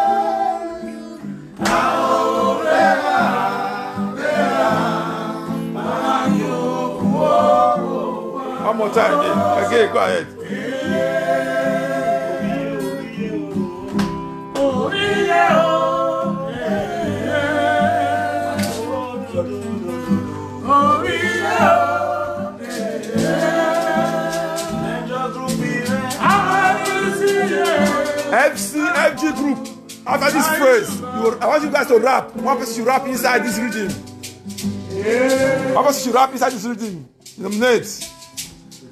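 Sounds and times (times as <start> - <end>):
man singing: 0.0 - 34.0, 34.9 - 38.1
acoustic guitar chords: 0.0 - 38.9.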